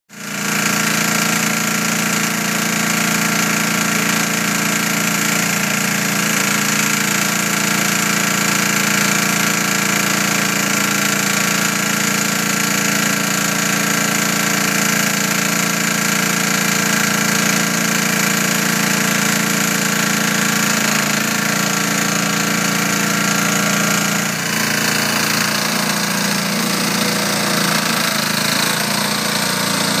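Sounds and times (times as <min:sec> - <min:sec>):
concrete mixer engine drone: 0:00.1 - 0:30.0.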